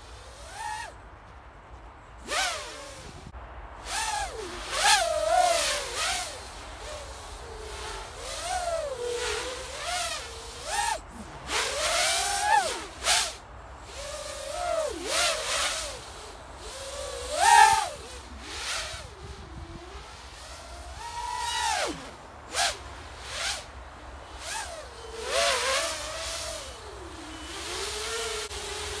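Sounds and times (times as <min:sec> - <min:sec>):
quadcopter motors whining: 0:00.0 - 0:01.0, 0:02.2 - 0:29.0.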